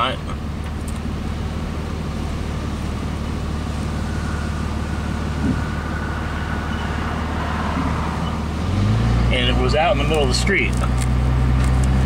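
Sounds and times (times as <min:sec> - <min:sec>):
road and wind noise hiss: 0:00.0 - 0:12.0
truck engine drone: 0:00.0 - 0:12.0.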